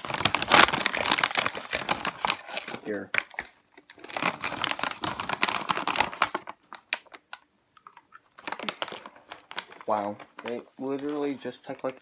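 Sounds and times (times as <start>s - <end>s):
plastic candy bag crinkling: 0.0s - 12.0s.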